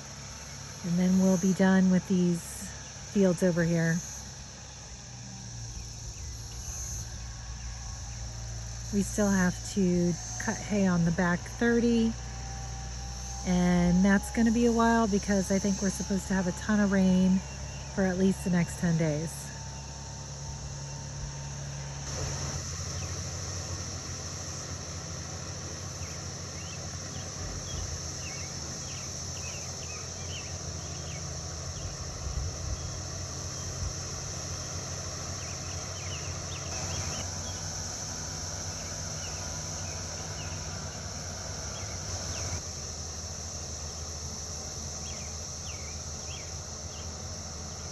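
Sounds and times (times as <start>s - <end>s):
distant engine hum: 0.0s - 47.9s
high insect drone: 0.0s - 47.9s.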